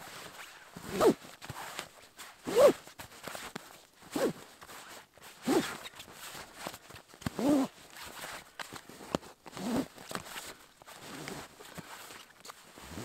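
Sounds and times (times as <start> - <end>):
fabric rustling: 0.0 - 13.0
straps zipping through buckles: 0.0 - 13.0.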